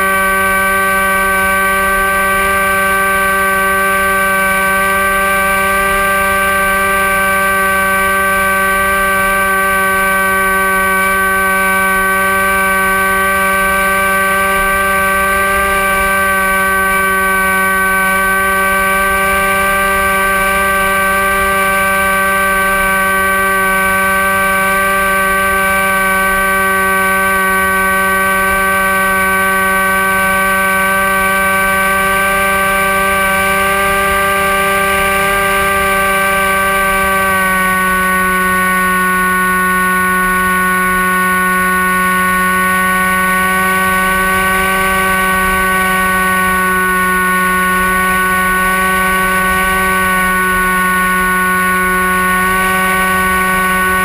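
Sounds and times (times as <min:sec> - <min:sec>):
model plane motor whining: 0:00.0 - 0:54.0.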